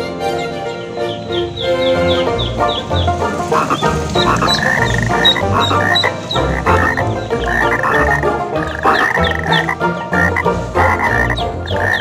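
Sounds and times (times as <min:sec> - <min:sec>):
frog croaking: 0:01.1 - 0:12.0.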